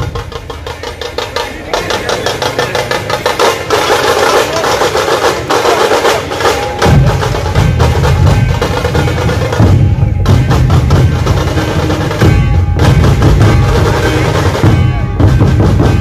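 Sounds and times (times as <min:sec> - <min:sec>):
deep drum beats: 0:00.0 - 0:16.0
rapid high-pitched drum rolls: 0:00.0 - 0:16.0
street drum band playing: 0:00.0 - 0:16.0.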